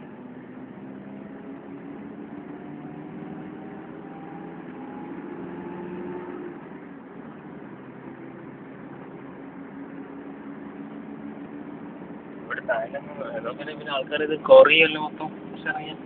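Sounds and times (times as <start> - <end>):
engine hum: 0.0 - 16.0
road noise: 0.0 - 16.0.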